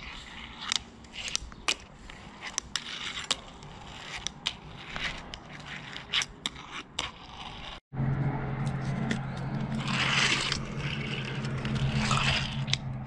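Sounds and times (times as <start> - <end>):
fingerboard deck scraping: 0.0 - 7.8, 8.6 - 13.0
small wheels rolling: 0.0 - 7.8, 8.8 - 13.0.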